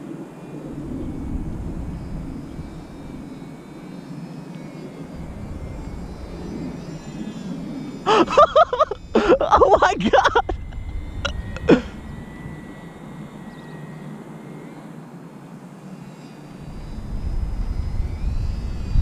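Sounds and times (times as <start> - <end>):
model plane motor buzzing: 0.0 - 19.0
wind rumble on microphone: 0.0 - 19.0.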